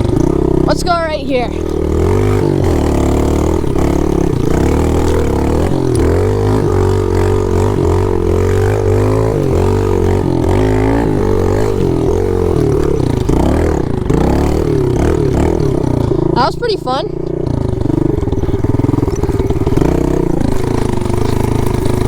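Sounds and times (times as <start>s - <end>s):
small motorcycle engine revving: 0.0s - 22.0s.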